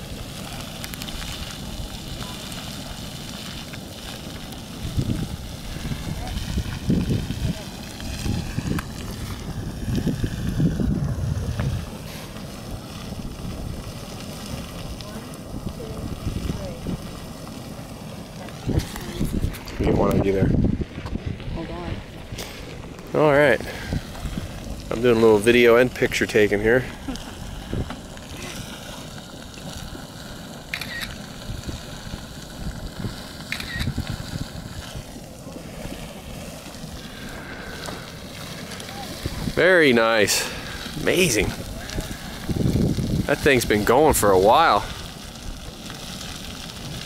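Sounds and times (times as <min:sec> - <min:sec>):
wind buffeting microphone: 0:00.0 - 0:30.1, 0:31.2 - 0:36.2, 0:36.8 - 0:47.0
geyser roaring: 0:00.0 - 0:47.0.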